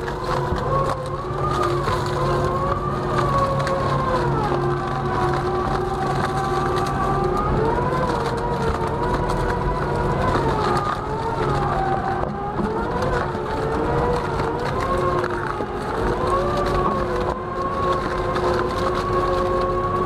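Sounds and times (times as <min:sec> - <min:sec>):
log cracking and splintering: 0:00.0 - 0:20.0
steady machine hum: 0:00.0 - 0:20.0
wood shredder drive whining: 0:00.0 - 0:20.0.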